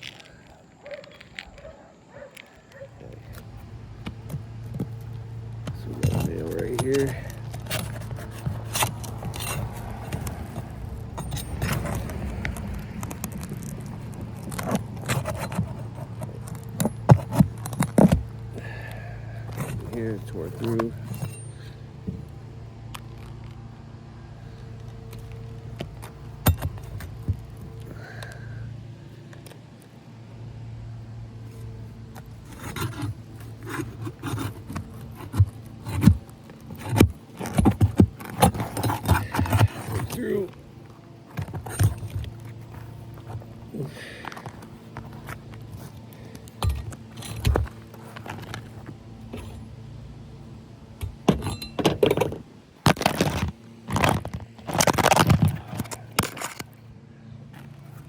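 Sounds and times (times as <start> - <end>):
nail scraping and clinking: 0.0 - 23.5, 24.8 - 28.3, 32.2 - 49.8, 51.0 - 56.8
steady low hum: 0.0 - 58.0.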